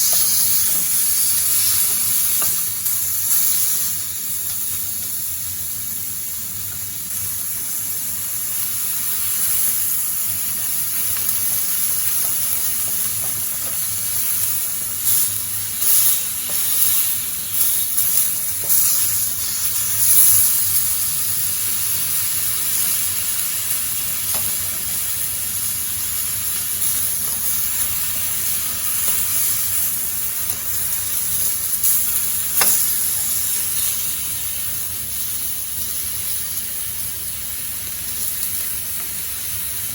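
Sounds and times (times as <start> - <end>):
alcohol stove hissing: 0.0 - 39.9.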